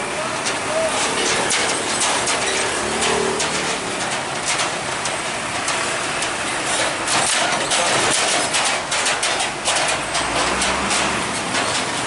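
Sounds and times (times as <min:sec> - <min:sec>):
truck clattering over rails: 0:00.0 - 0:12.0
truck engine running: 0:00.0 - 0:12.0.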